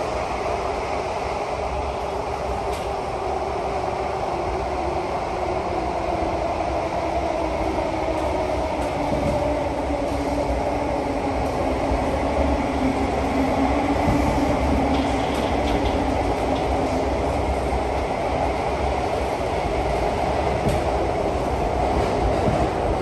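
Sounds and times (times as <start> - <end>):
train rumbling and rolling: 0.0 - 23.0.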